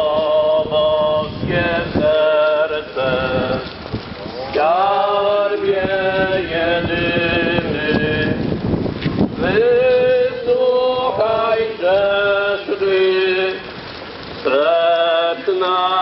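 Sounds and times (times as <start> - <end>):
man singing a hymn: 0.0 - 3.9, 4.5 - 8.6, 9.2 - 13.8, 14.4 - 16.0.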